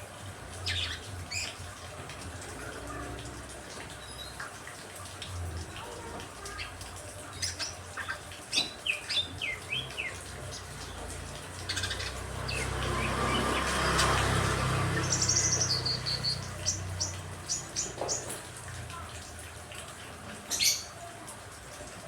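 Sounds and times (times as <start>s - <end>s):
caged songbirds chirping: 0.1s - 4.6s, 5.4s - 21.1s.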